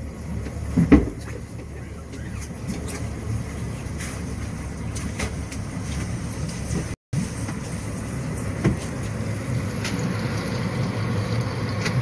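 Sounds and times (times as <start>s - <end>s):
outboard motors droning: 0.0s - 12.0s.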